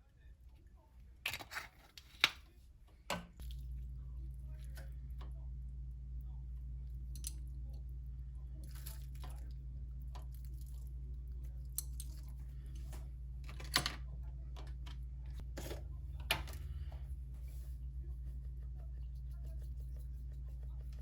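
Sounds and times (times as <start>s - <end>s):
steady low hum: 2.4s - 21.0s.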